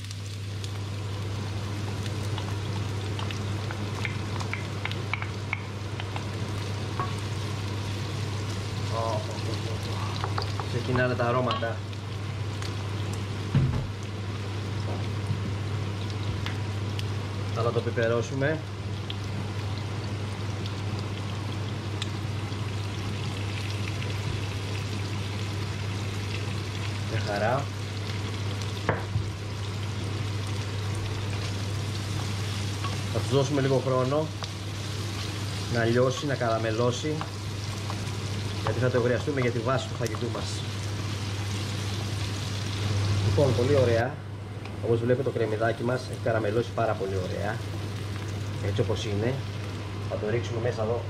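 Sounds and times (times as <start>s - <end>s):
onions sizzling in hot oil: 0.0s - 50.9s
extractor fan humming: 0.0s - 51.0s.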